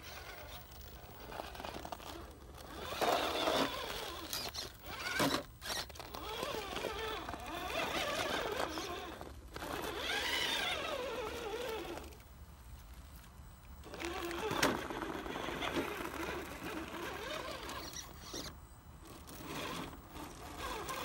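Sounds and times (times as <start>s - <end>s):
electric motor whining: 0.0s - 12.2s, 13.8s - 21.0s.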